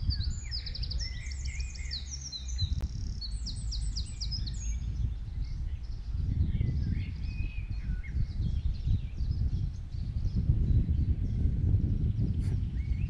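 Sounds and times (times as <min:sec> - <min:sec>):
songbirds chirping and trilling: 0:00.0 - 0:13.0
steady low rumble: 0:00.0 - 0:13.0.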